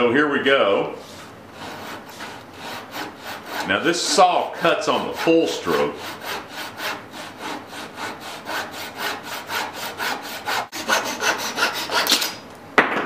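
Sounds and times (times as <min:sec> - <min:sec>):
hand saw sawing wood: 0:00.9 - 0:12.4.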